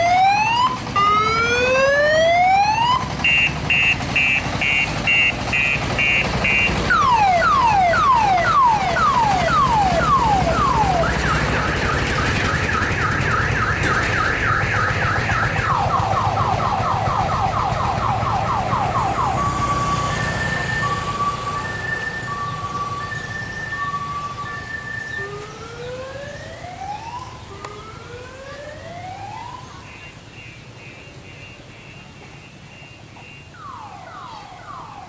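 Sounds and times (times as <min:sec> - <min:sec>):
electronic multi-tone siren: 0:00.0 - 0:35.0.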